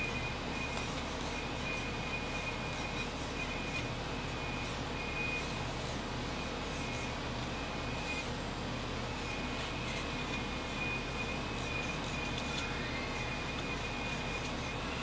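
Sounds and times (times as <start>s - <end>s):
high whine under load: 0.0s - 15.0s.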